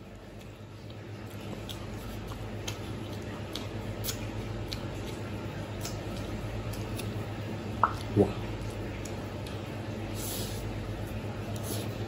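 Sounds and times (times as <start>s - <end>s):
chewing crispy chicken crunches: 0.0s - 12.0s
steady low hum: 0.0s - 12.0s.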